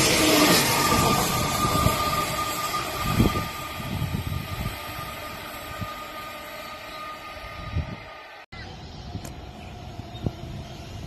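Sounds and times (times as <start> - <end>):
thin steady whine: 0.0 - 11.0
train rail noise receding: 0.0 - 11.0.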